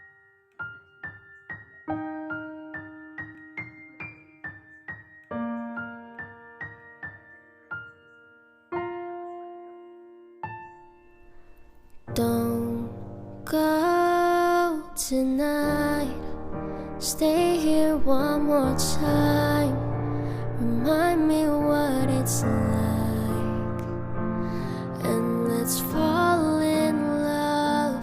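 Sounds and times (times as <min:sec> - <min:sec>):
fuller musical accompaniment: 0:00.0 - 0:28.0
slow sad piano: 0:00.0 - 0:28.0.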